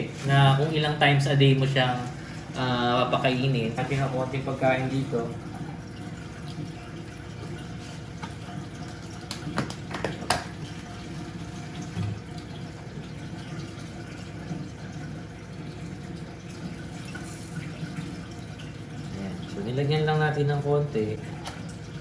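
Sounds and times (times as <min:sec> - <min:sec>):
aquarium filter water trickling: 0:00.0 - 0:22.0.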